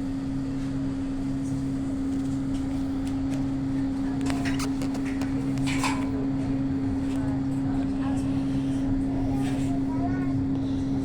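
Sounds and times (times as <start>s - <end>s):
train hum inside carriage: 0.0s - 11.0s.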